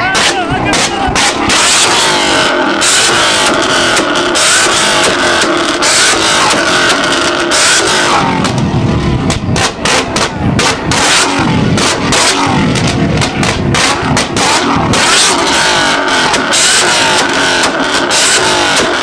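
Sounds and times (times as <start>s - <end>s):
low engine rumble: 0.0s - 18.1s
exhaust popping and banging: 0.0s - 19.0s.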